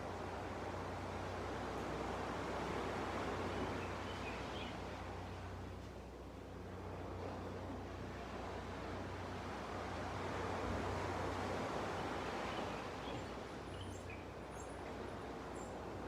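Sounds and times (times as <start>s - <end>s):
sea waves washing on beach: 0.0s - 5.9s, 6.5s - 16.0s.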